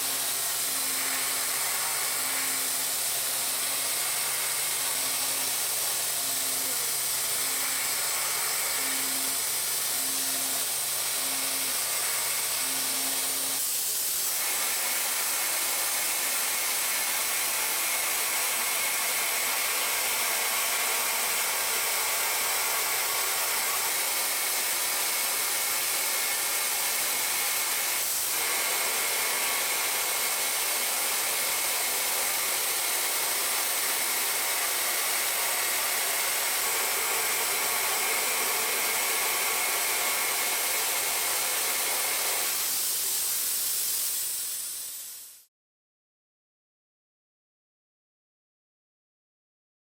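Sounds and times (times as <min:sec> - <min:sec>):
machine hiss: 0:00.0 - 0:45.5.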